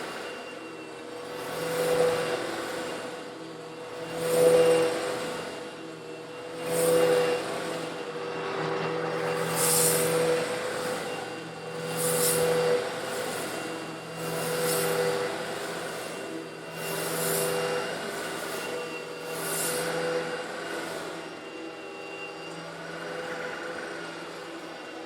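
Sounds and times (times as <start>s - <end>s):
vacuum cleaner motor hum: 0.0s - 25.0s.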